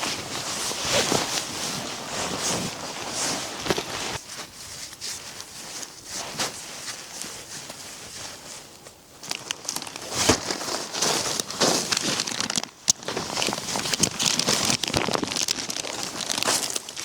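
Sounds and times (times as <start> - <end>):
material crinkling and rustling: 0.0 - 17.0.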